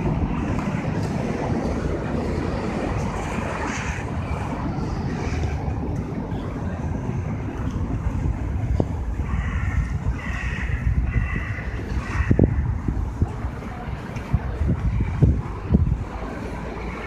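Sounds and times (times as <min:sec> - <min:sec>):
city street traffic: 0:00.0 - 0:17.0
wind buffeting microphone: 0:00.0 - 0:17.0.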